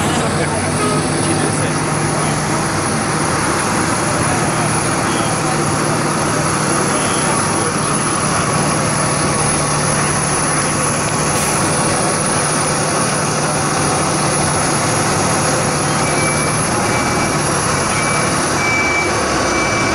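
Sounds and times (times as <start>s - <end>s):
large vehicle engine running: 0.0s - 19.9s.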